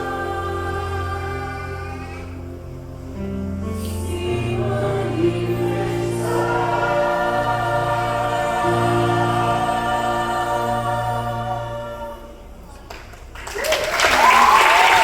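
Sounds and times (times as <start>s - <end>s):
choir singing sustained notes: 0.0s - 12.8s.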